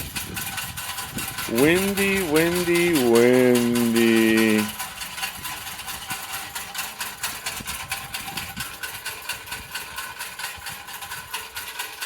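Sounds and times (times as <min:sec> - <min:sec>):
wind buffeting microphone: 0:00.0 - 0:03.2, 0:04.7 - 0:11.4.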